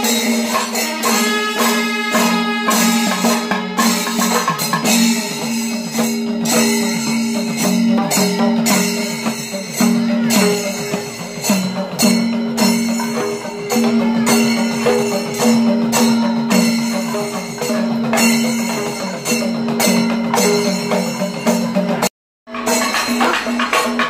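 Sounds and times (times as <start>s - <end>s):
metal cymbals ringing: 0.0s - 24.0s.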